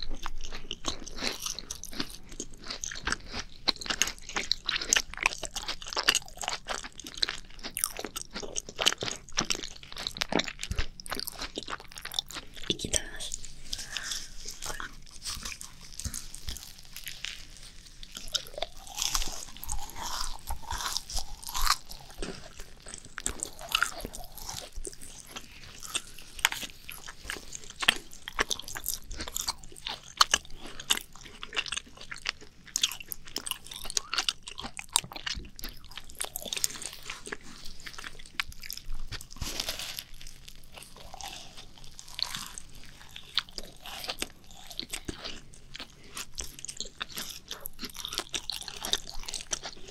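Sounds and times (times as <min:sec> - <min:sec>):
chewing: 0:00.0 - 0:49.9
macaron shells crunching: 0:00.0 - 0:49.9.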